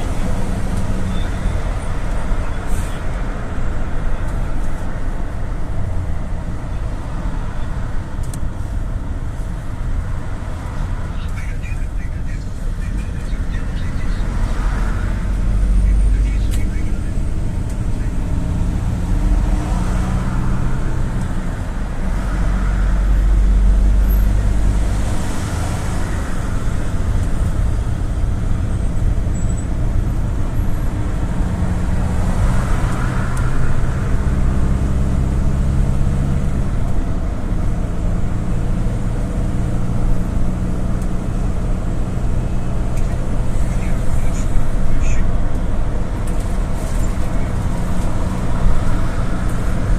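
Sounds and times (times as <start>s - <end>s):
minibus engine and road noise: 0.0s - 49.9s.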